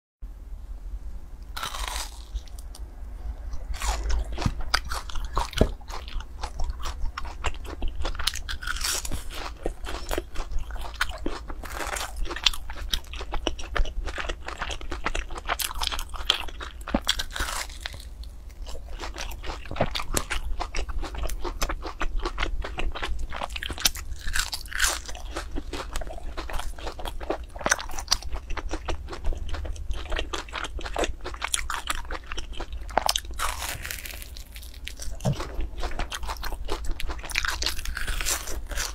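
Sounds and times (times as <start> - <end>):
crunching and chewing: 1.5 - 38.9.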